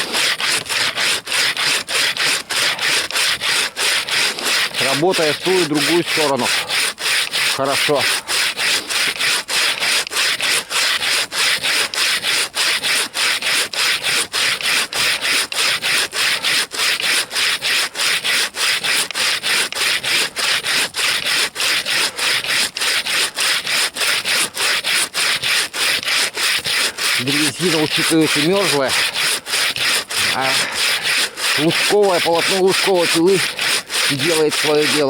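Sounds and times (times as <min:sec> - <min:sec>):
bow saw cutting wood: 0:00.0 - 0:35.0.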